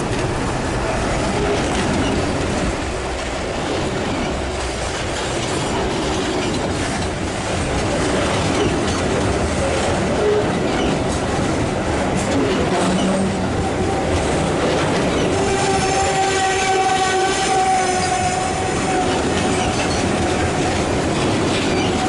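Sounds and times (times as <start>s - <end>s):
clickety-clack over rail joints: 0.0s - 22.0s
train wheels rumbling: 0.0s - 22.0s.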